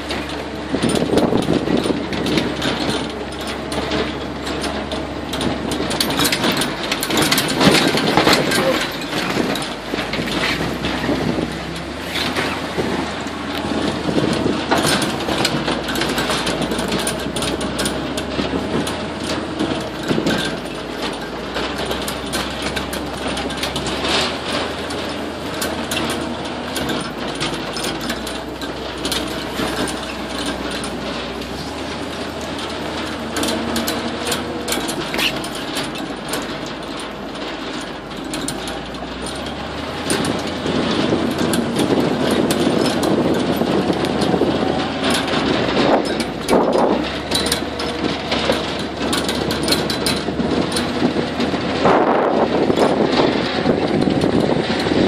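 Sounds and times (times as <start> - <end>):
vehicle body rattling over bumps: 0.0 - 55.0
vehicle engine running: 0.0 - 55.0.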